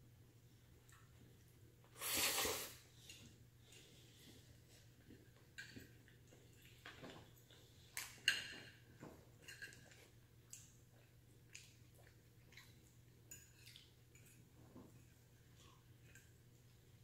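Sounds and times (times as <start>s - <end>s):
chewing and mouth smacks: 3.0s - 17.0s.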